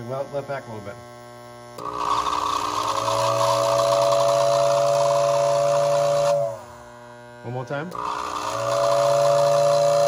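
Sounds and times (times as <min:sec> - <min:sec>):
fan whirring: 0:00.0 - 0:10.0.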